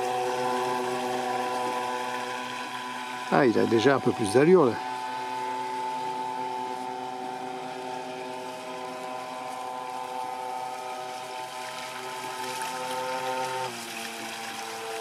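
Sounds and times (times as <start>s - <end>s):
model speedboat motor droning: 0.0s - 15.0s.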